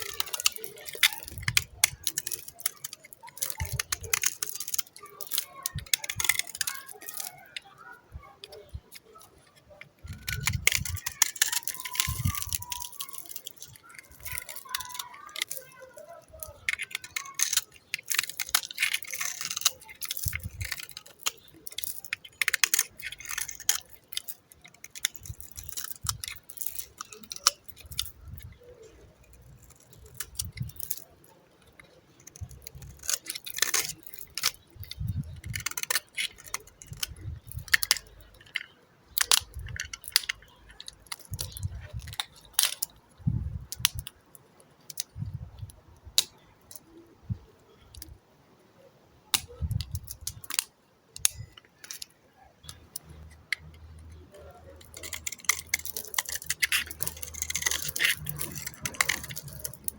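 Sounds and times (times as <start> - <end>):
soap crackling under a blade: 0.0 - 48.2, 49.2 - 59.9.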